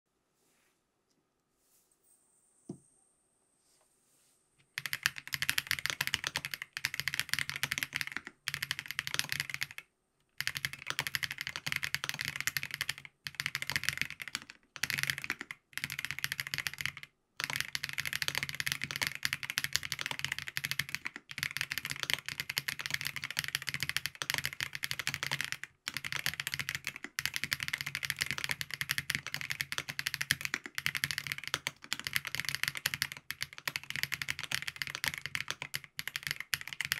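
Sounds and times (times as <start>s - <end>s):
fast typing on mechanical keyboard: 4.8s - 36.9s.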